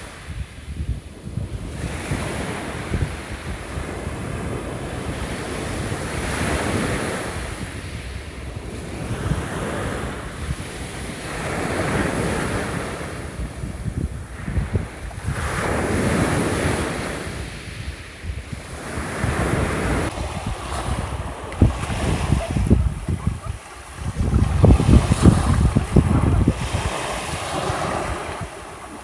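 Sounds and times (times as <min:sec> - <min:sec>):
small waves breaking on shore: 0:00.0 - 0:29.0
wind rumbling on microphone: 0:00.0 - 0:29.0.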